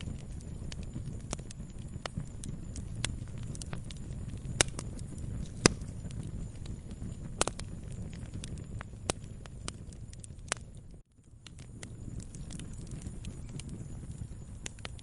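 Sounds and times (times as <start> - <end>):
campfire crackling and popping: 0.0 - 15.0
low steady rumble: 0.0 - 15.0.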